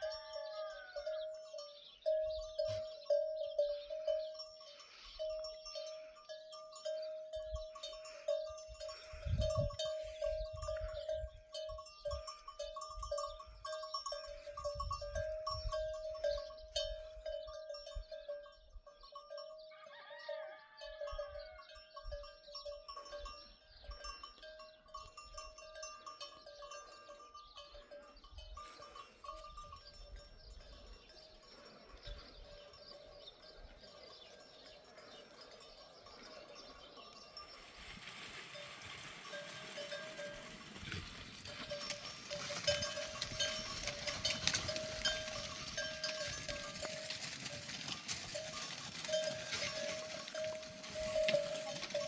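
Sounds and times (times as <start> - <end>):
livestock bell clanging: 0.0 - 52.0.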